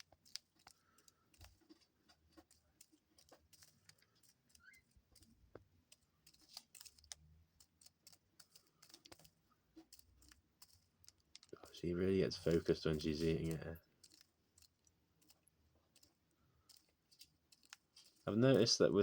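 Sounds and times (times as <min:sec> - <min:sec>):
bird beak pecking seeds: 0:00.0 - 0:18.8.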